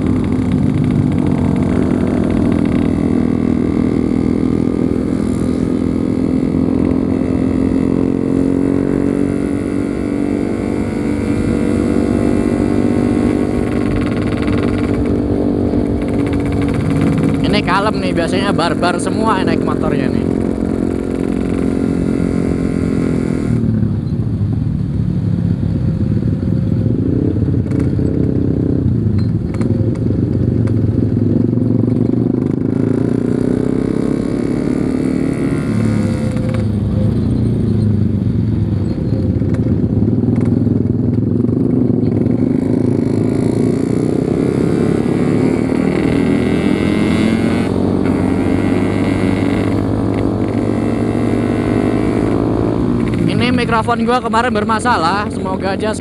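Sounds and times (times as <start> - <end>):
two-stroke motorcycle engine: 0.0 - 56.0.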